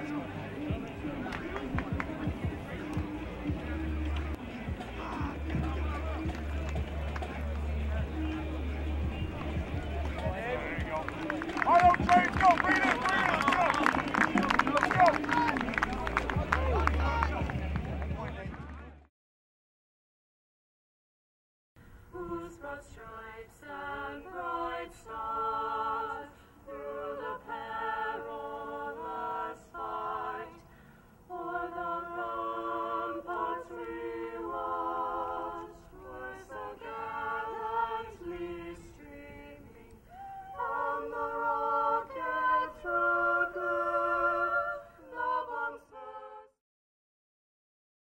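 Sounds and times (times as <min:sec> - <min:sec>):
unaccompanied singing voices: 0:00.0 - 0:17.5, 0:22.1 - 0:46.6.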